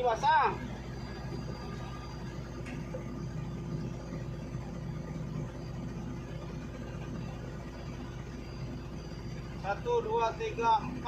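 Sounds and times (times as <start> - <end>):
engine idling low hum: 0.0 - 11.0.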